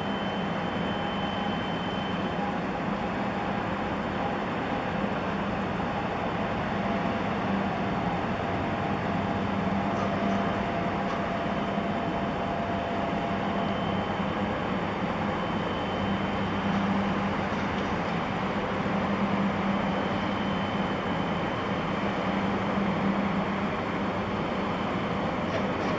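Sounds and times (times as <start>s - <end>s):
ship engine droning: 0.0s - 25.9s.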